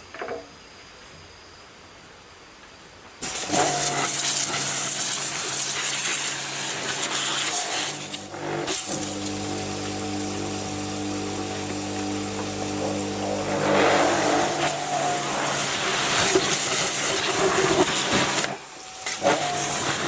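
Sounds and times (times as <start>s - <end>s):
engine starting and running: 3.2s - 20.0s
loud hiss: 3.2s - 20.0s.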